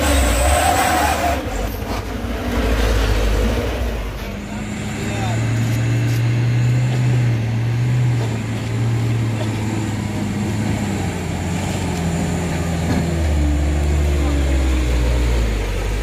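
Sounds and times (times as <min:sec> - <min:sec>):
truck diesel engine under load: 0:00.0 - 0:16.0.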